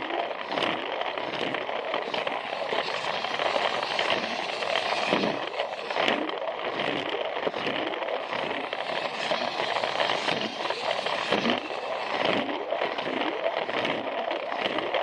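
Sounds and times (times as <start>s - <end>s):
plastic wheels rattling on track: 0.0s - 15.0s
toy train motor whirring: 1.5s - 13.5s
low pulsing: 1.5s - 13.6s.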